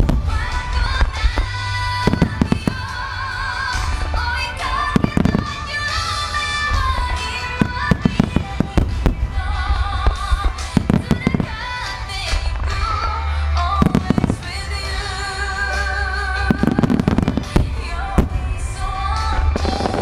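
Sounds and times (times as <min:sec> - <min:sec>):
fireworks bursting: 0:00.0 - 0:20.0
loud music: 0:00.0 - 0:20.0.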